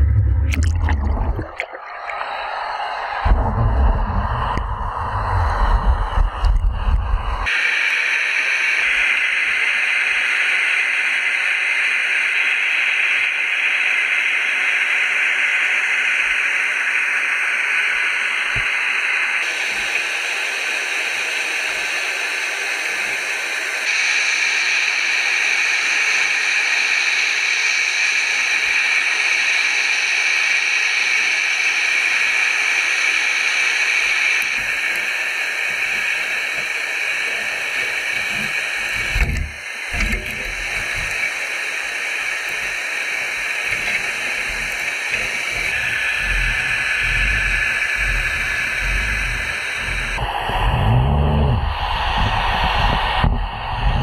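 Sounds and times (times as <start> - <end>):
static-like hiss: 0.0 - 54.0.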